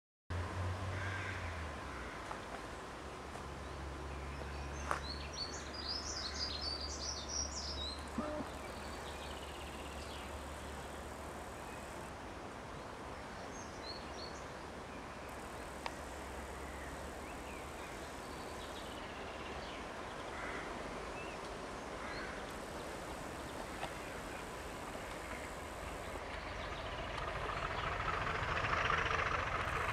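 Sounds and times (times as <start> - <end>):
outdoor background hiss: 0.4 - 29.9
songbirds chirping: 2.6 - 29.9.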